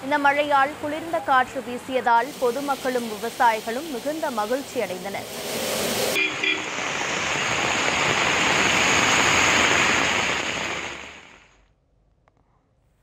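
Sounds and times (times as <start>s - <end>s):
heavy rain pouring: 0.6s - 11.6s.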